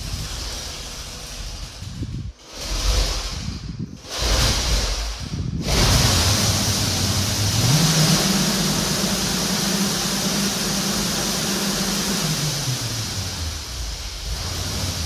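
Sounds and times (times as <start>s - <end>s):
low motor hum: 0.0s - 15.0s
wheels rolling on wooden floor: 0.0s - 15.0s.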